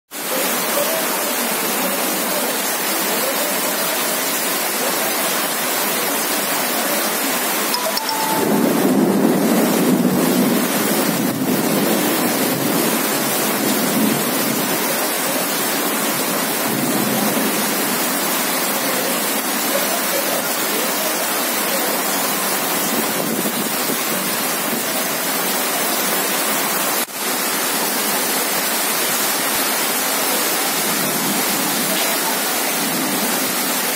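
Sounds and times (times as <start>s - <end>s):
heavy rain on pavement: 0.1s - 33.9s.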